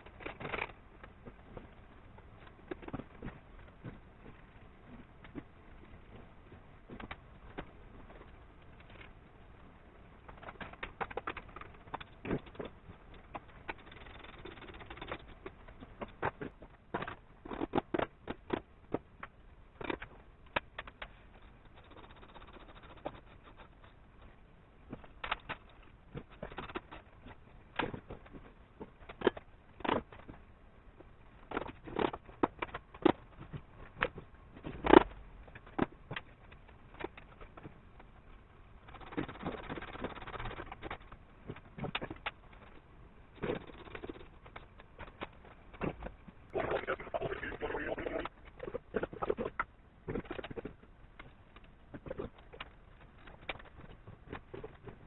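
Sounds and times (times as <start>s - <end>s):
sharp clicks and light knocks: 0.0s - 9.3s, 10.1s - 55.0s.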